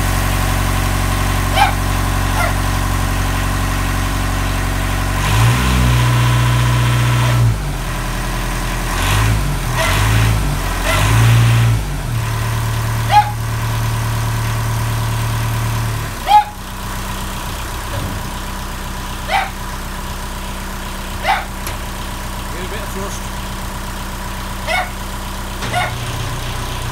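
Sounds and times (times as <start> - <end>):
boat diesel engine running: 0.0 - 26.9.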